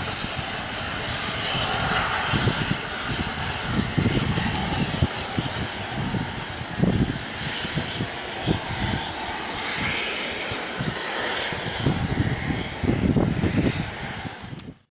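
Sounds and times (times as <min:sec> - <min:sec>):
distant steam locomotive rumble: 0:00.0 - 0:14.6
low buffeting: 0:00.0 - 0:14.8.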